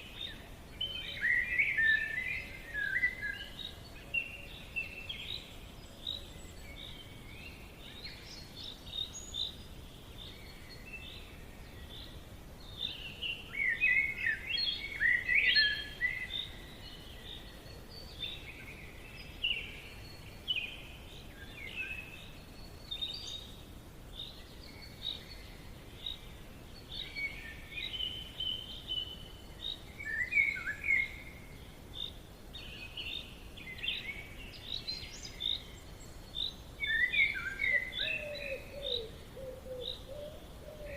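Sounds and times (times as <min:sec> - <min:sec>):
faint steady hiss: 0:00.0 - 0:40.9
songbirds chirping and trilling: 0:00.0 - 0:40.9.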